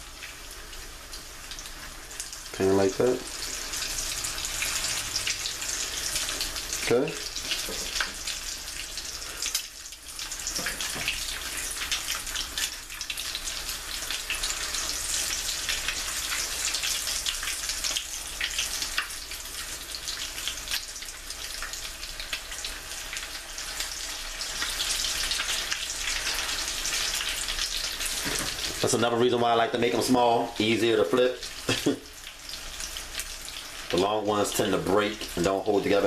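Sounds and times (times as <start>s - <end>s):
patties sizzling in oil: 0.0s - 36.0s.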